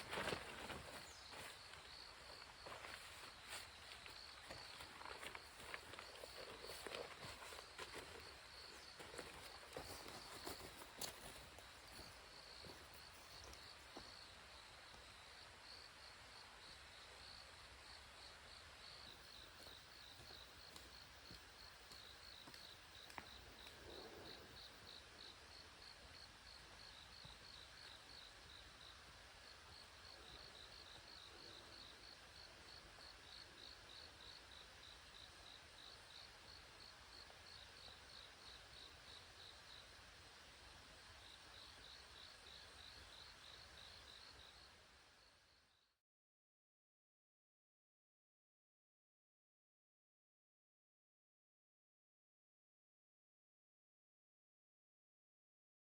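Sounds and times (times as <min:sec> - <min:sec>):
insects chirping: 0:00.0 - 0:45.8.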